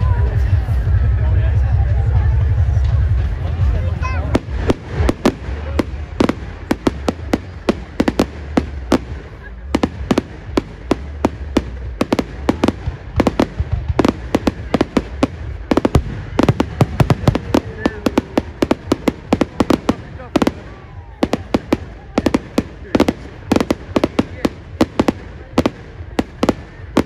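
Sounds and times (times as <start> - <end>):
fireworks bursting: 2.4 - 27.0.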